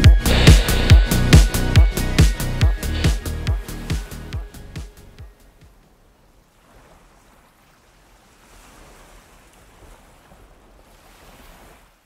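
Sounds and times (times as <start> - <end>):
faint ocean surf: 0.0 - 12.0.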